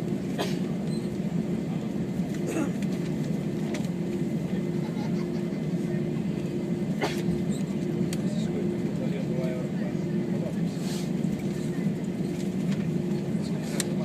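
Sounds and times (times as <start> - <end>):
aircraft engines droning at idle: 0.0 - 14.0.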